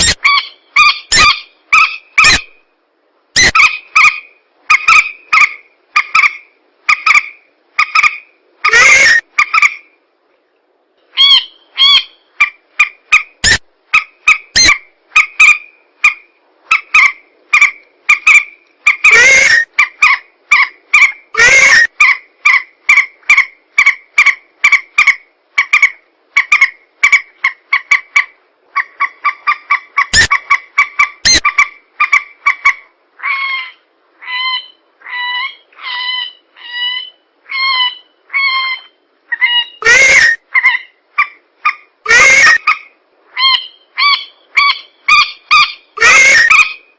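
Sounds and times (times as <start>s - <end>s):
rail bird calls honking: 3.4s - 9.8s, 11.2s - 27.2s, 28.8s - 40.9s, 41.6s - 46.8s.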